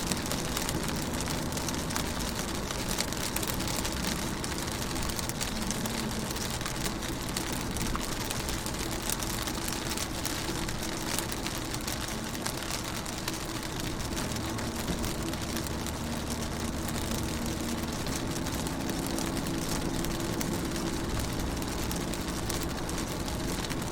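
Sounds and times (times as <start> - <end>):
car road hum: 0.0 - 23.9
rain on car window: 0.0 - 23.9.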